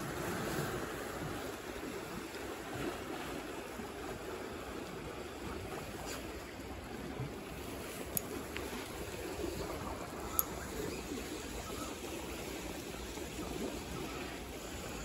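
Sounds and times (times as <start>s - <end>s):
sea water lapping at shore: 0.0s - 15.0s
wind: 0.0s - 15.0s.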